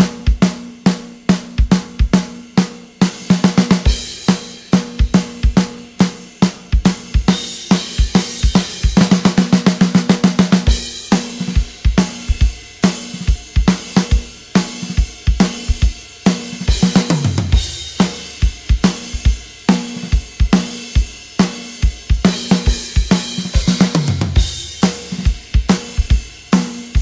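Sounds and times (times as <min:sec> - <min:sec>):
drum-led instrumental music: 0:00.0 - 0:27.0.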